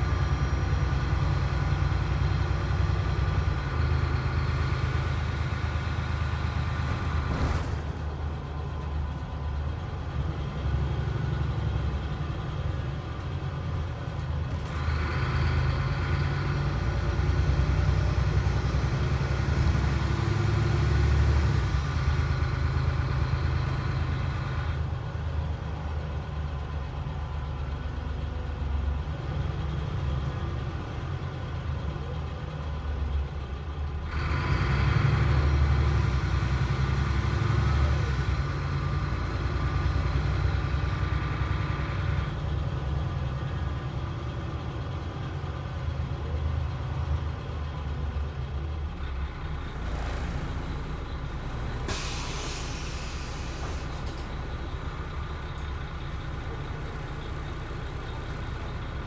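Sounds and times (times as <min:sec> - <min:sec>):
road and body noise: 0:00.0 - 0:34.6, 0:35.2 - 0:59.0
bus engine drone: 0:00.0 - 0:59.0.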